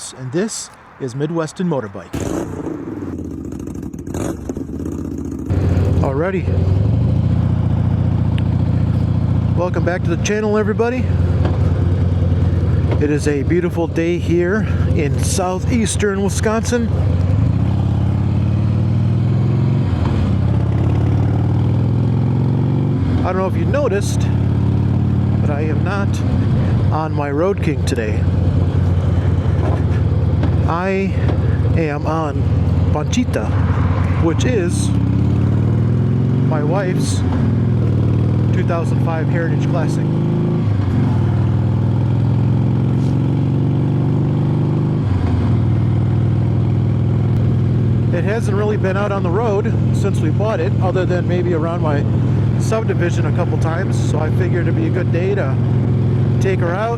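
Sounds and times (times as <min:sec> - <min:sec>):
motorcycle engine running: 0:02.2 - 0:56.9.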